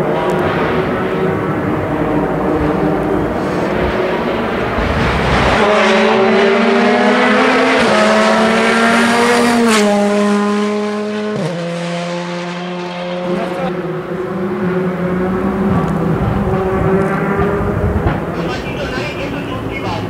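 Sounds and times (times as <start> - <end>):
rally car engine at high revs: 0.0 - 18.6.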